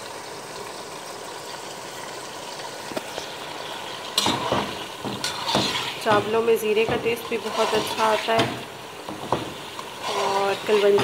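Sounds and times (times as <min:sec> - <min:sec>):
chicken sizzling in oil: 0:00.0 - 0:11.0
seeds crackling in hot oil: 0:00.0 - 0:11.0.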